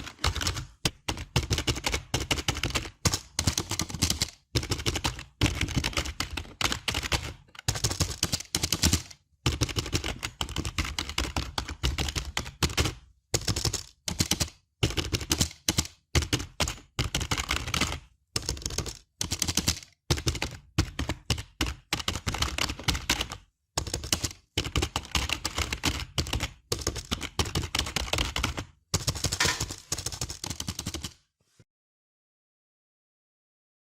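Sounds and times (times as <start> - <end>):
keyboard typing: 0.0 - 31.2.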